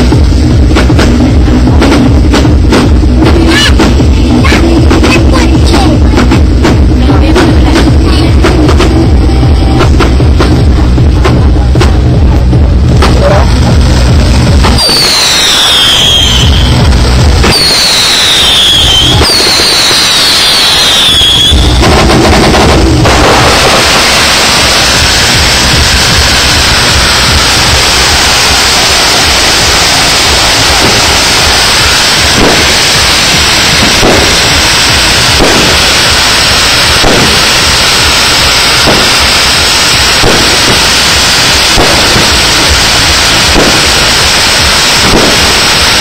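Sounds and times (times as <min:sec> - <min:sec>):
firework bangs: 0:00.0 - 0:46.0
fireworks rushing noise: 0:00.0 - 0:46.0.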